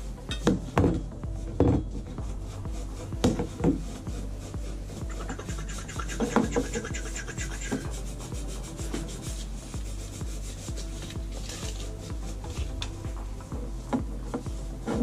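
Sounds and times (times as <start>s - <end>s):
background music with beat: 0.0s - 15.0s
metal rubbing and scraping: 0.0s - 15.0s.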